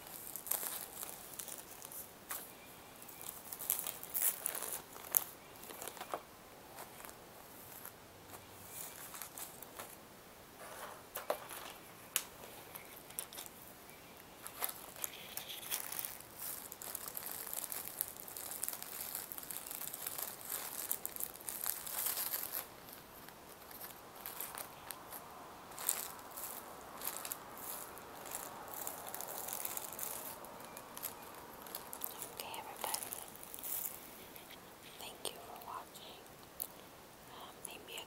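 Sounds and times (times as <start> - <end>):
fingers crinkling plastic bags: 0.0 - 2.5, 3.1 - 10.0, 11.1 - 13.6, 14.4 - 36.8.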